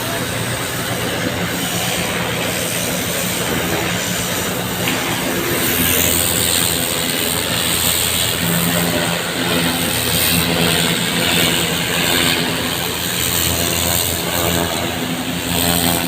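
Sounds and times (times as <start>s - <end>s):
engine running: 0.0s - 16.0s
water spraying from a hose: 0.1s - 16.0s.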